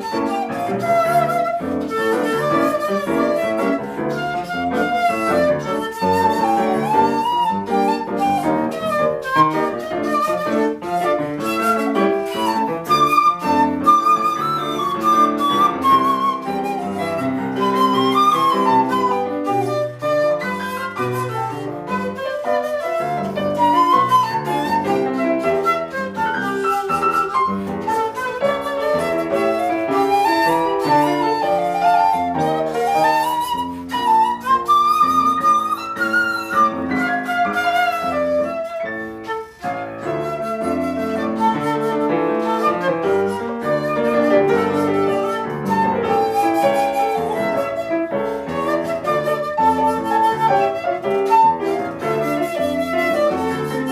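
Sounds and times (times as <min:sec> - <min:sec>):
bamboo flute melody: 0:00.0 - 0:53.9
piano chords: 0:00.0 - 0:53.9.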